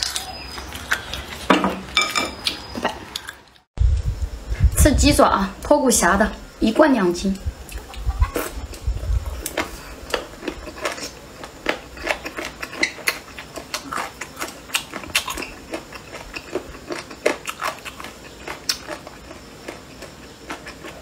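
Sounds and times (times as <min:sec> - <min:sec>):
crunchy chewing: 0:00.0 - 0:03.7, 0:07.6 - 0:21.0.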